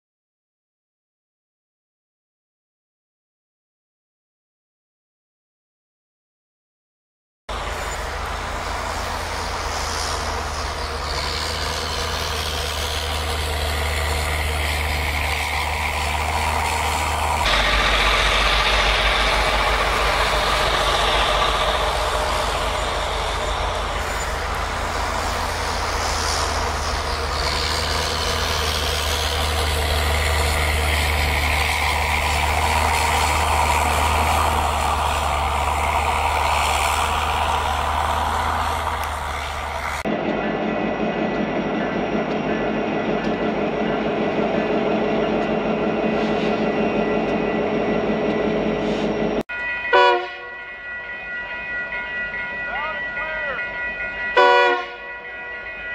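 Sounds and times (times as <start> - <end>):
locomotive engine drone: 7.5 - 55.9.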